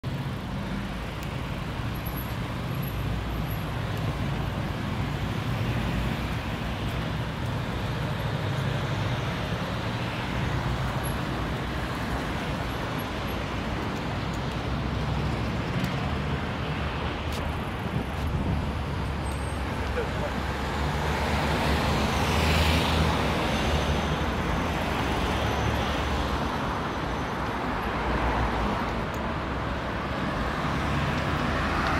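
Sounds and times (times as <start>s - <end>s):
city road traffic rumble: 0.0s - 31.9s.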